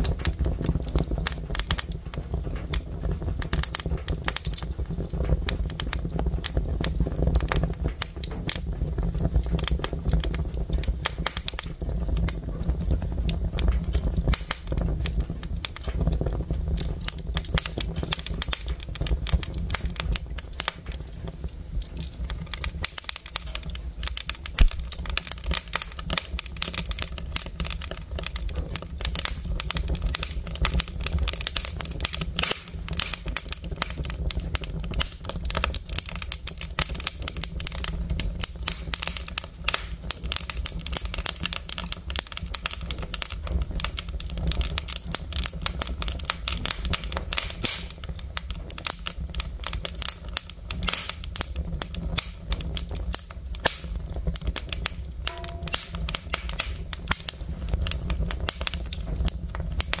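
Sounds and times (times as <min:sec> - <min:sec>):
logs crackling and popping: 0:00.0 - 1:00.0
low rumble of flames: 0:00.0 - 1:00.0.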